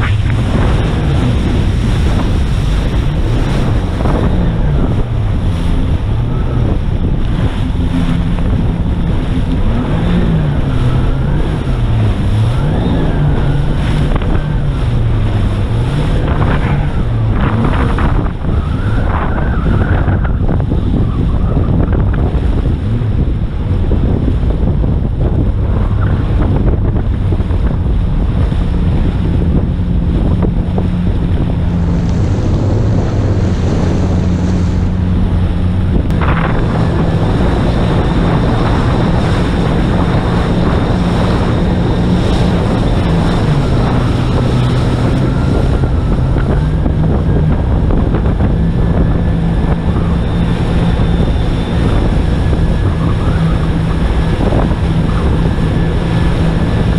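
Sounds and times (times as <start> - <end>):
jet ski engine running: 0.0 - 56.9
wind buffeting microphone: 0.0 - 56.9.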